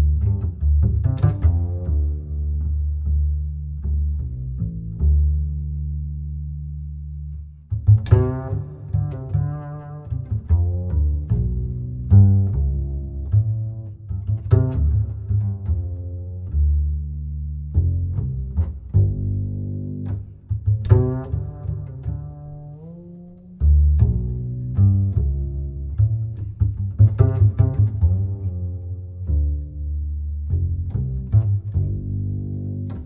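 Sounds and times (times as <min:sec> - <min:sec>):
music with deep bass line: 0:00.0 - 0:33.0.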